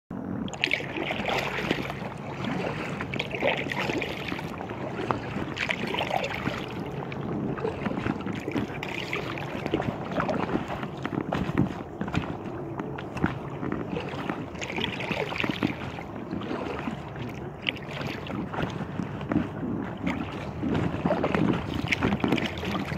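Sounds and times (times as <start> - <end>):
water slapping kayak hull: 0.1 - 22.9
wind noise on microphone: 0.1 - 22.9.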